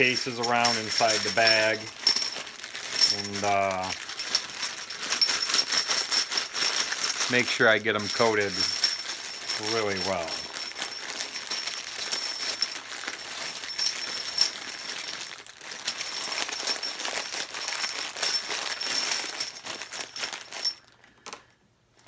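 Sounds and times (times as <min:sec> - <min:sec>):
brass cartridge cases rattling: 0:00.0 - 0:21.4.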